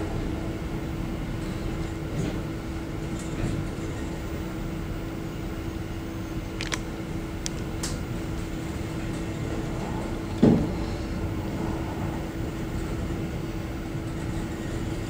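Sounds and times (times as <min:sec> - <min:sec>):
train rumbling: 0:00.0 - 0:05.2, 0:07.3 - 0:15.0.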